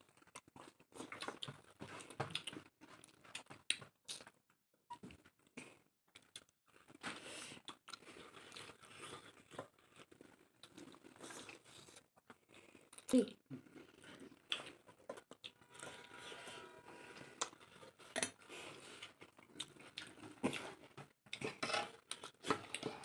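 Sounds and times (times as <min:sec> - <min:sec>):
person chewing and crunching food: 0:00.0 - 0:04.4, 0:05.0 - 0:23.0.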